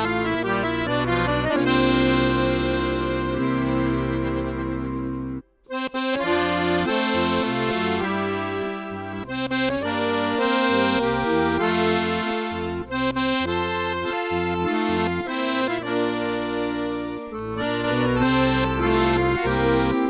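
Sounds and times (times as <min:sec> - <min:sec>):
instrumental background music: 0:00.0 - 0:20.0.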